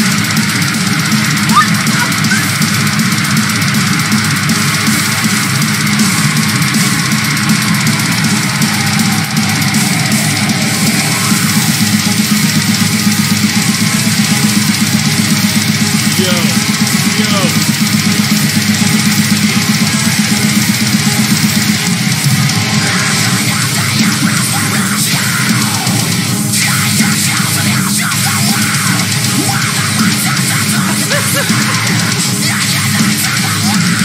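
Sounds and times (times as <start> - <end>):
distorted electric guitars: 0.0 - 34.0
fast drum kit: 0.0 - 34.0
heavy metal music: 0.0 - 34.0.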